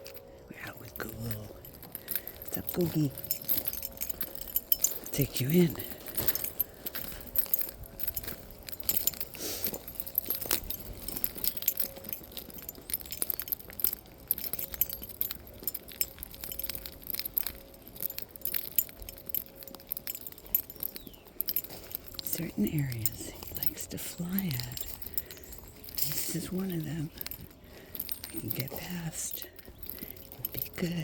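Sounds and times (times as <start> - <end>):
metallic jingling and clinking: 0.0 - 31.0.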